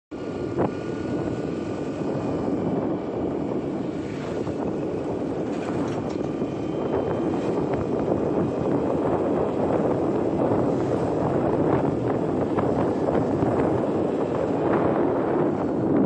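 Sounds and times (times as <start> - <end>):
motorbike engine: 0.2 - 16.0
tyre and wind noise: 0.2 - 16.0.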